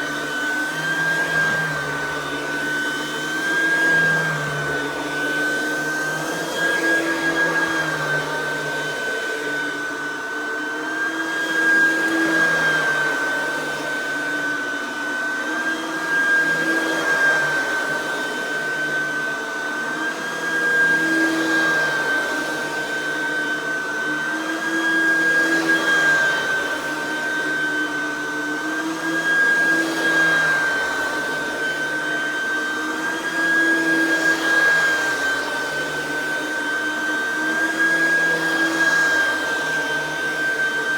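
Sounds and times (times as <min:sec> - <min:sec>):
vacuum cleaner whine: 0:00.0 - 0:40.9.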